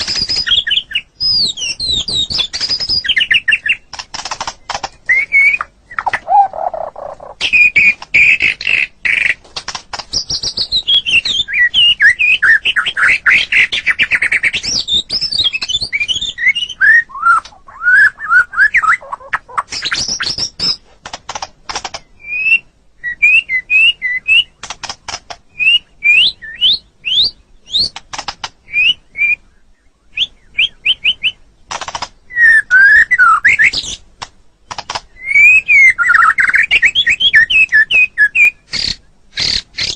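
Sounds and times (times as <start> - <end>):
bird singing varied whistles and trills: 0.0 - 9.4, 10.0 - 20.8, 21.9 - 39.9.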